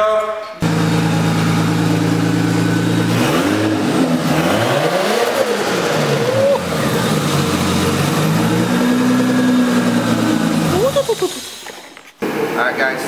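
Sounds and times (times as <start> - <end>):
car engine idling and revving: 0.6 - 12.6.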